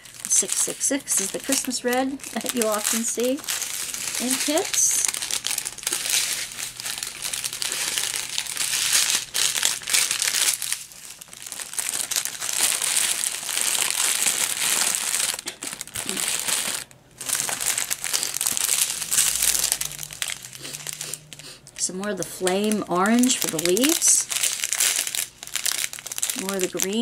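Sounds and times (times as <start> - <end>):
plastic bags crinkling: 0.0 - 27.0.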